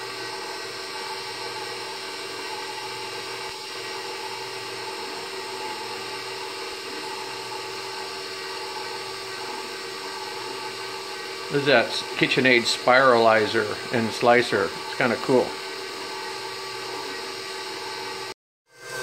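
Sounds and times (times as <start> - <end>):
stand mixer motor running: 0.0 - 19.0.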